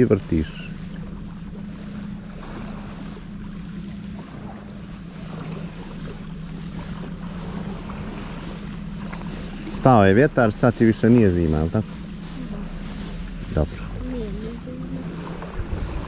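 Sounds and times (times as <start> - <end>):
low motor hum: 0.0 - 16.0
sea noise: 0.0 - 16.0
wind on microphone: 1.5 - 16.0.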